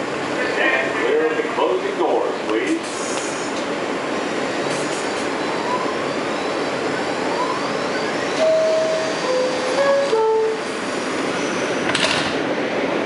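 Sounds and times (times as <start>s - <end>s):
subway car rumble and hiss: 0.0s - 13.0s.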